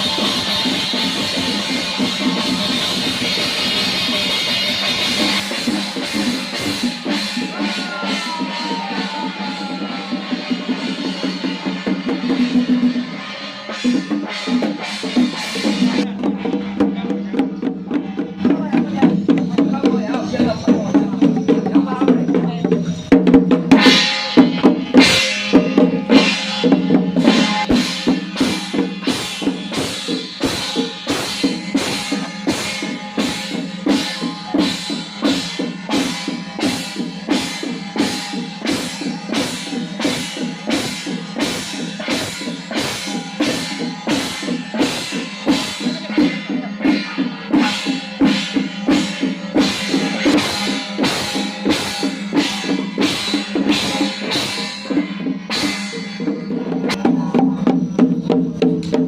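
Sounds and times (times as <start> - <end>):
ringing percussion strokes: 0.0 - 59.0.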